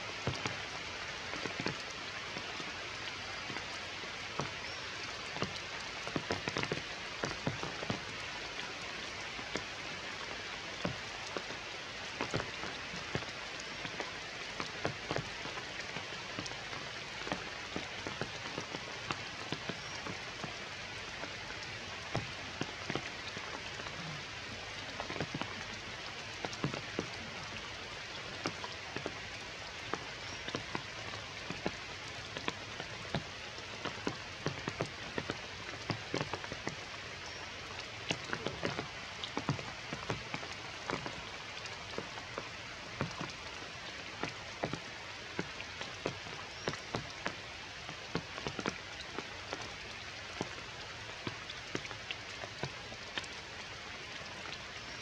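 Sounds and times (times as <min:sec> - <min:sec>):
steady rain falling: 0:00.0 - 0:55.0
raindrop taps: 0:00.1 - 0:53.4.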